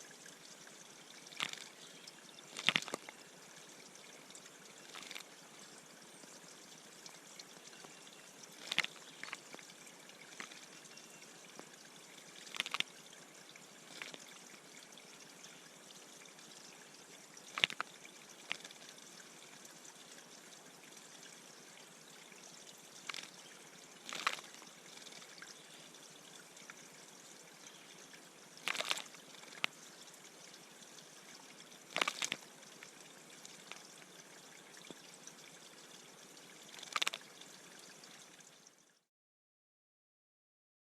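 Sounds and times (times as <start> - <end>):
trickle of running water: 0.0 - 39.1.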